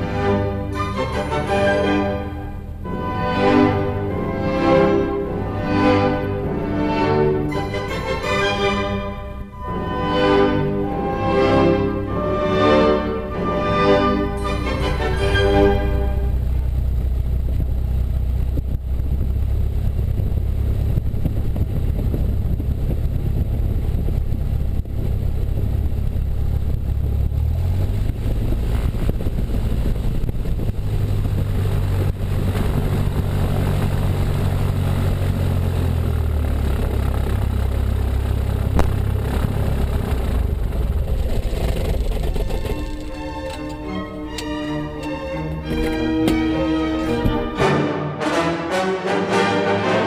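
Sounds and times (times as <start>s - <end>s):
airplane piston engine drone: 0.0s - 47.6s.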